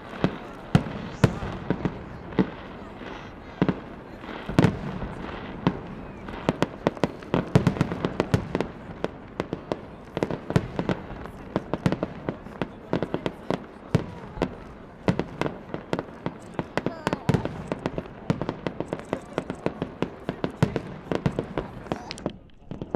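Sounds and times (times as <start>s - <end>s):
fireworks bangs and crackles: 0.0s - 22.9s.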